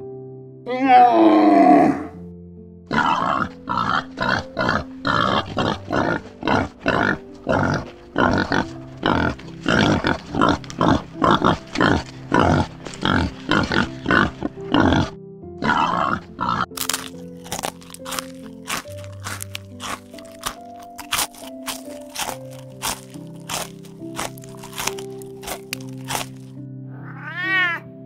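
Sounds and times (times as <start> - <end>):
light background music: 0.0 - 28.0
warthogs grunting: 0.7 - 2.2, 2.9 - 26.4.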